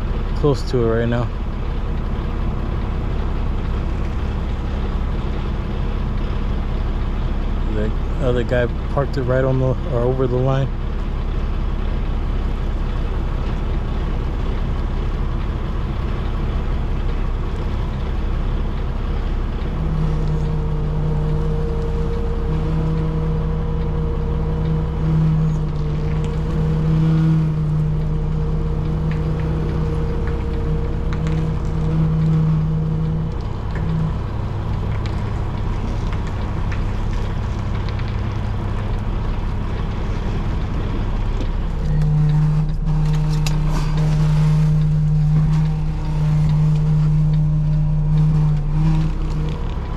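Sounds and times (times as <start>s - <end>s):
diesel truck engine rumbling: 0.0s - 49.9s.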